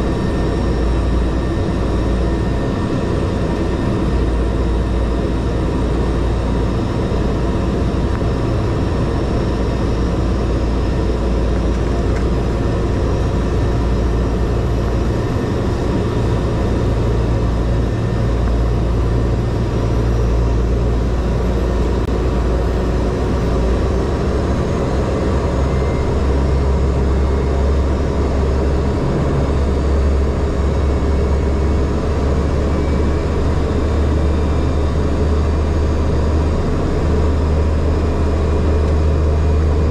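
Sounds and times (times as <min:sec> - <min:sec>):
turboprop engine droning: 0:00.0 - 0:39.9.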